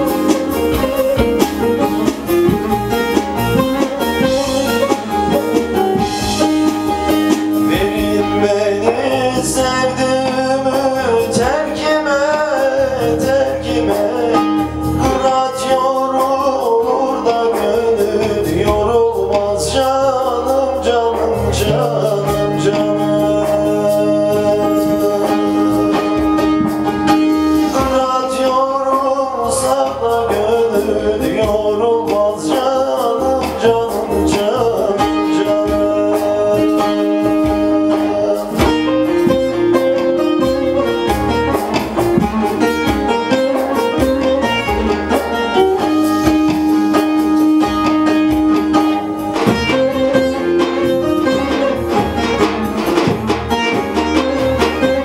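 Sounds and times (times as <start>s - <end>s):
man singing folk song: 0.0s - 55.0s
plucked string accompaniment: 0.0s - 55.0s.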